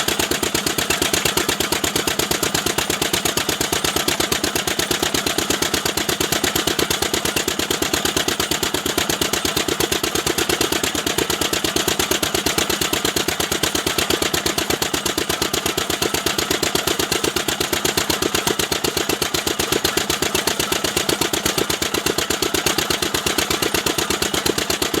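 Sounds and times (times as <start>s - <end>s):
machine engine chugging: 0.0s - 25.0s.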